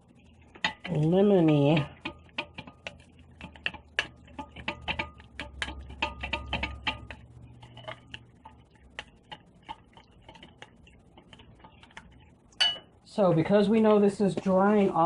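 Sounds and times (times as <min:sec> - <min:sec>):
utensil tapping against bowl: 0:00.5 - 0:12.9.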